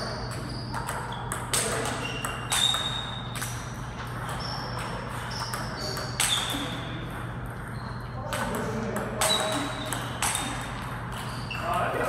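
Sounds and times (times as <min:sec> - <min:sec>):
table tennis ball hits: 0:00.0 - 0:12.0
ball bouncing on table: 0:00.1 - 0:11.9.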